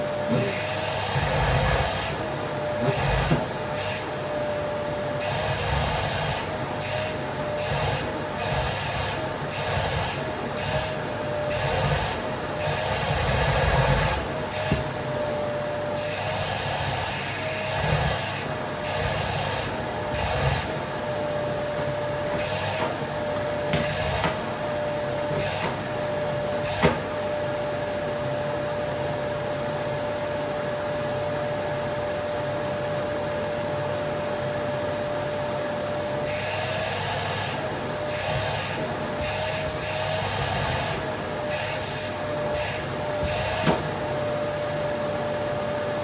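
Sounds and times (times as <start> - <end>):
vacuum cleaner motor whine: 0.0 - 46.0.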